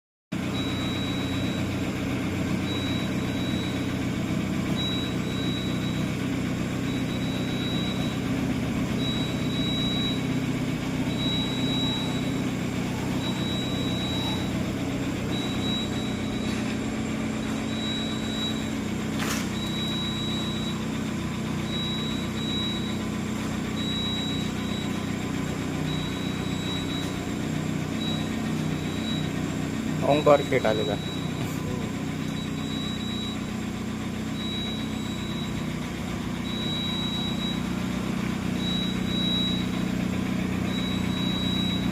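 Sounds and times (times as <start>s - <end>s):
car engine idling: 0.3s - 41.9s.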